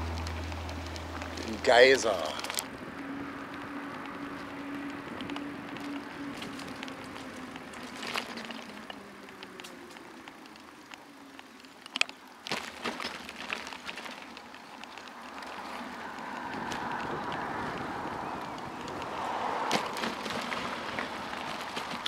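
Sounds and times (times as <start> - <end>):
bicycle knocks and rattles: 0.0 - 22.0.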